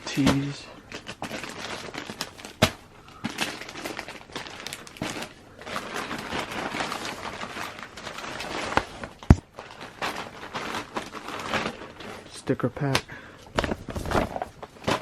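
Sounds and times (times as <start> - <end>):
plastic packaging and clothing rustling: 0.0 - 15.0.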